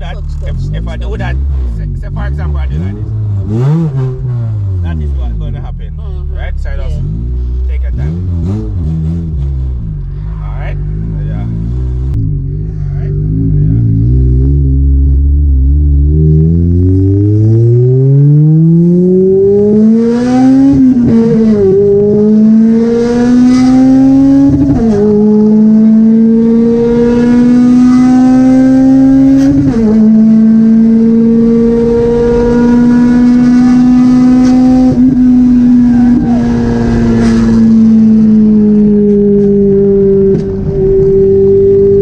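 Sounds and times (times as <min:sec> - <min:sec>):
car engine revving through gears: 0:00.0 - 0:05.8, 0:06.4 - 0:42.0.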